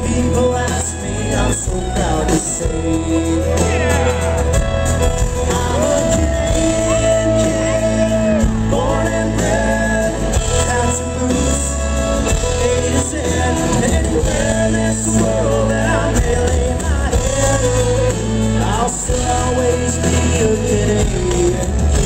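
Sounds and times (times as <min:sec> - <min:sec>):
country band playing: 0:00.0 - 0:22.0
person singing: 0:00.0 - 0:22.0.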